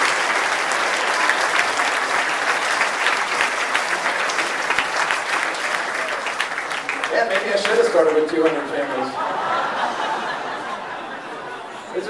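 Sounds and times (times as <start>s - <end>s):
large crowd applauding: 0.0s - 11.3s.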